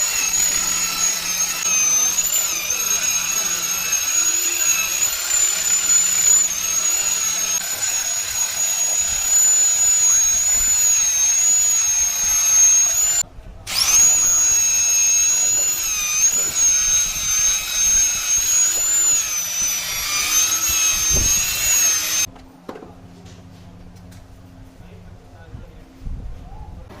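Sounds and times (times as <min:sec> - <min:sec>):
electric power tool motor whine: 0:00.0 - 0:22.3.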